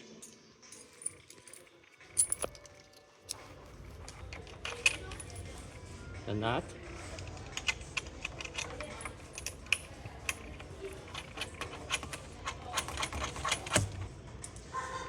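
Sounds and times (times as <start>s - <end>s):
metallic clicks of bolts and nuts: 0.2s - 5.6s, 7.0s - 14.6s.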